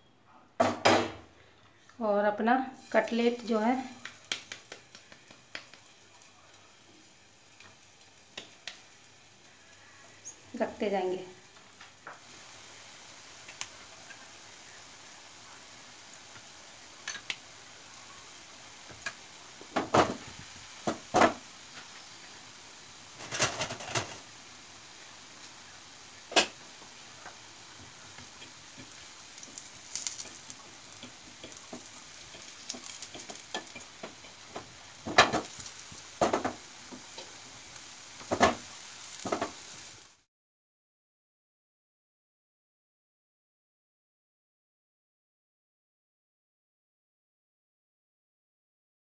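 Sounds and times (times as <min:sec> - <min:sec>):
frying sizzle: 0:00.6 - 0:40.3.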